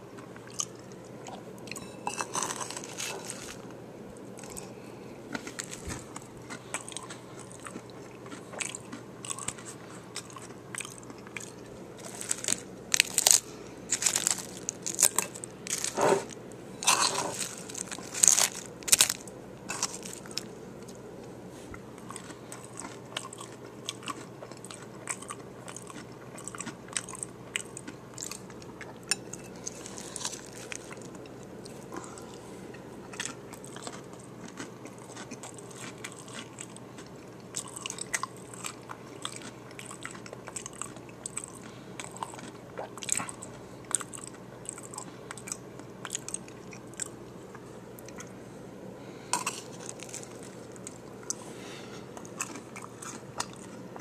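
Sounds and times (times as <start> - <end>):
crunchy taco shell chewing: 2.2 - 21.0, 21.8 - 32.4, 33.0 - 48.4, 49.4 - 51.4, 52.0 - 54.0.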